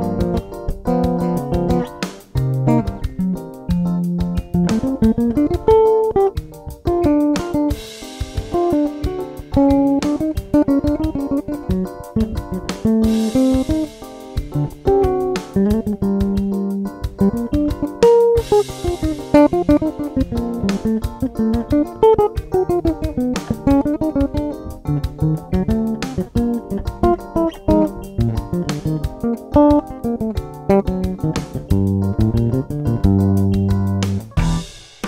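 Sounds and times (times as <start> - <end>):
electric bass played fingerstyle: 0.0 - 34.8.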